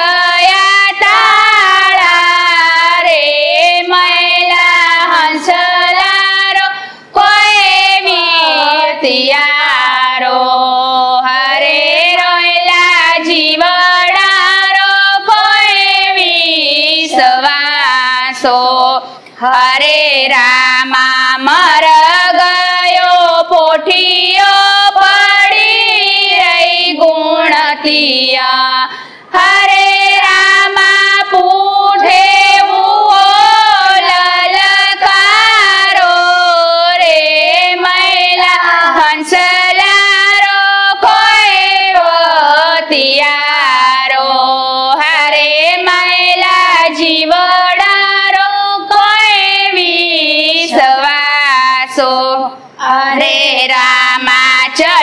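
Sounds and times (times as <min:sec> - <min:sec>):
women singing devotional song: 0:00.0 - 0:55.0.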